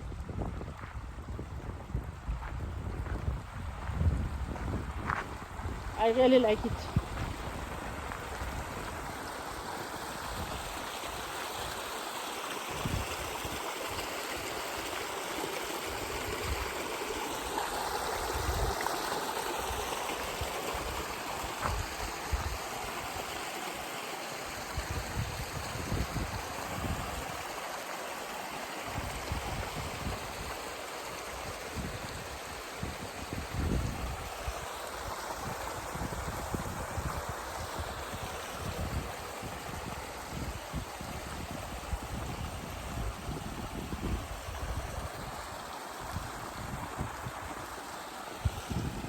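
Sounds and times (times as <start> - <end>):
stream flowing water: 0.0 - 49.0.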